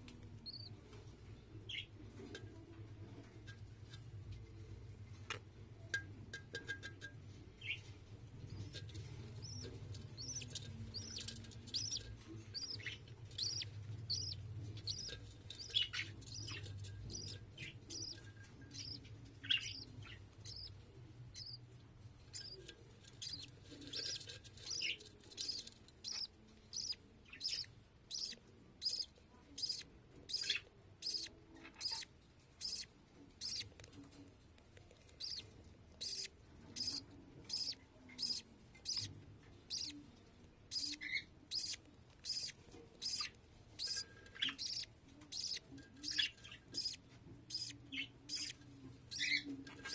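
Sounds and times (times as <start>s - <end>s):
bird chick chirping: 0.0s - 2.5s, 7.5s - 34.3s, 35.0s - 49.9s
faint low hum: 0.0s - 49.9s.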